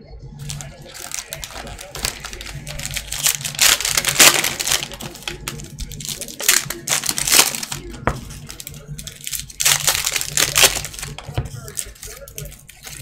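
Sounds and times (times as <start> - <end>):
foil wrappers crinkling and tearing: 0.4 - 13.0.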